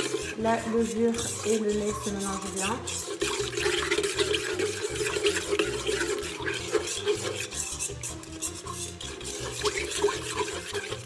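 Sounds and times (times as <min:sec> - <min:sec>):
liquid swishing: 0:00.0 - 0:11.0
spoon scraping steel bowl: 0:00.0 - 0:11.0.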